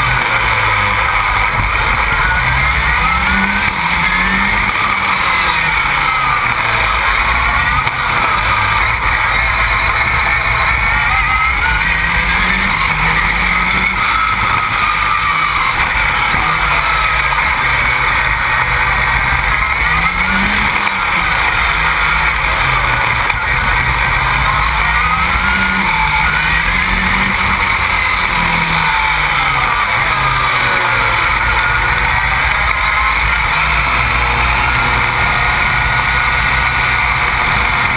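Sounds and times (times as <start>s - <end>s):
racing engine revs rising and falling: 0.0s - 37.9s.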